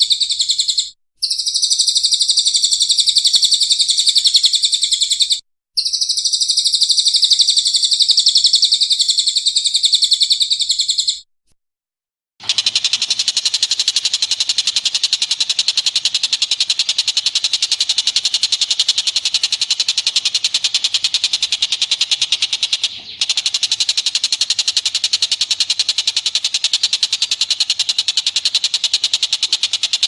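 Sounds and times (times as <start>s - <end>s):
rapid high-pitched chattering call: 0.0s - 11.2s, 12.4s - 30.0s.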